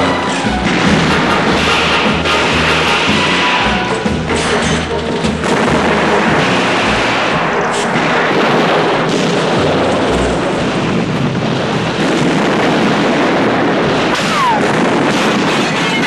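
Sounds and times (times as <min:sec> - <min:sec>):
gunfire and explosions: 0:00.0 - 0:16.0.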